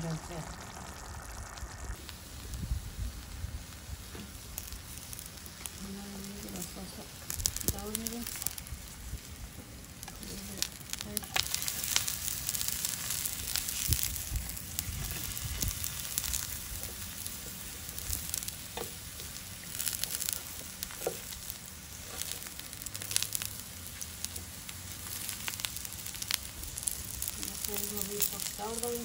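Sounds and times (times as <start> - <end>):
oil popping: 0.0 - 29.0
slices sizzling in hot oil: 0.0 - 29.0.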